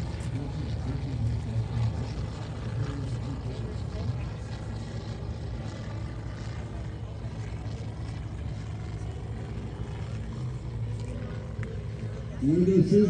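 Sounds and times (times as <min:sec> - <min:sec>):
model airplane engine droning: 0:00.0 - 0:13.0.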